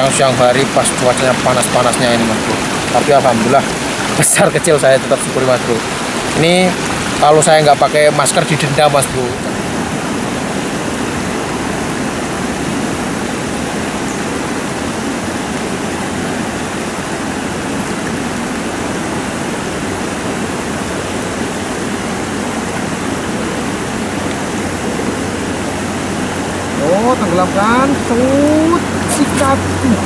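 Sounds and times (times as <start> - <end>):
water roaring below a dam: 0.0 - 30.0.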